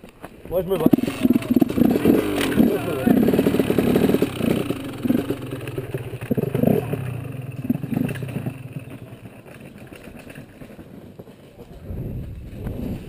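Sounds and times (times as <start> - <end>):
dirt bike engine riding away: 0.5 - 13.0.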